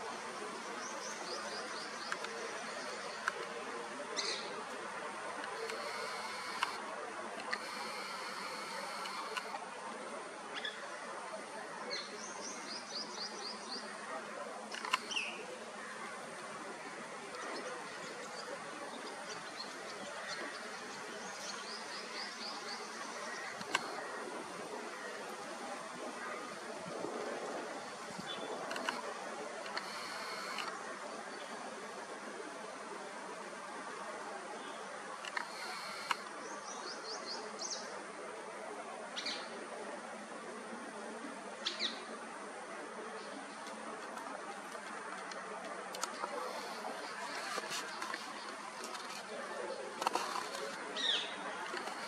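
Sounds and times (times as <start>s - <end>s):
steady background hiss: 0.0s - 52.0s
steady background noise: 0.0s - 52.0s.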